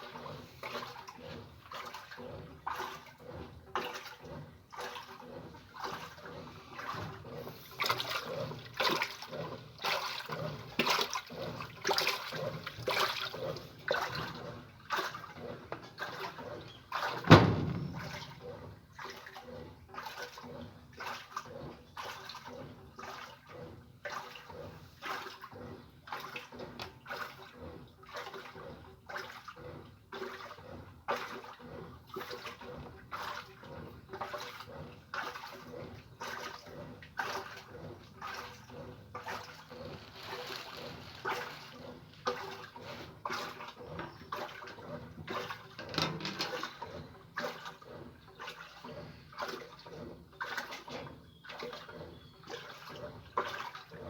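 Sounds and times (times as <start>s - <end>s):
water sloshing in washing machine: 0.0s - 54.0s.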